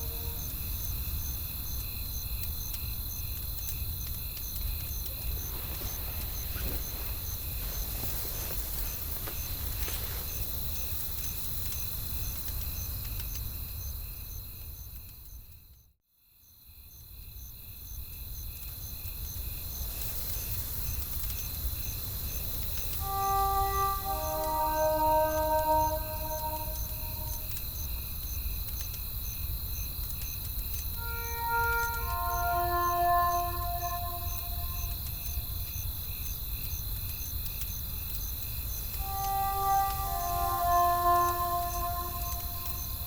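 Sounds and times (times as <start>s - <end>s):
crickets chirping: 0.0s - 14.9s, 17.9s - 27.8s, 30.7s - 43.0s.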